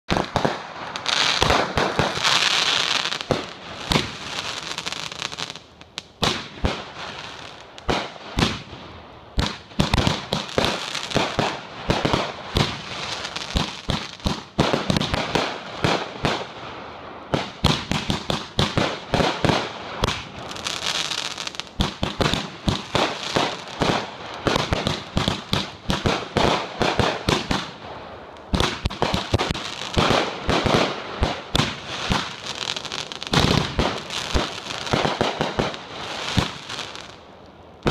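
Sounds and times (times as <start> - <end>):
fireworks bangs and crackle: 0.1 - 37.9.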